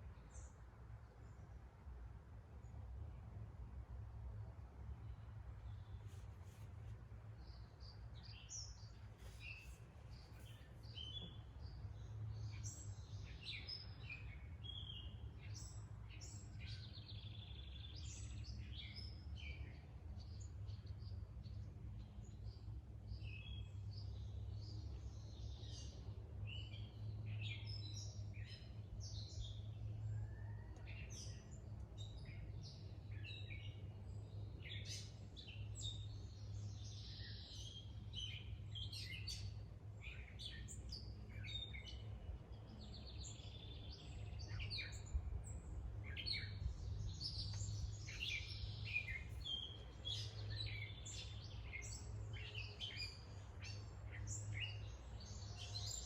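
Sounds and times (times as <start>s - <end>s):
small birds chirping: 5.0s - 56.0s.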